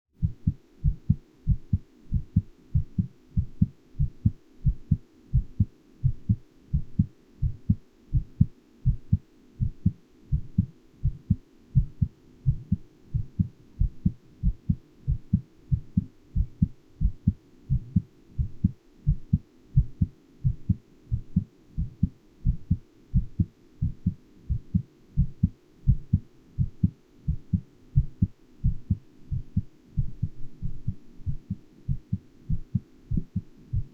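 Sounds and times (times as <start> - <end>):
heart beating: 0.2 - 33.9.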